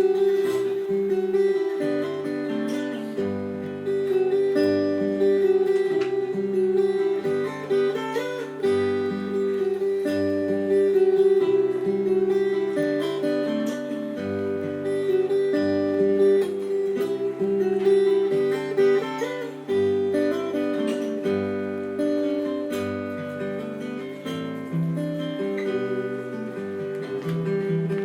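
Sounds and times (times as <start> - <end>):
fingerstyle acoustic guitar: 0.0 - 28.0.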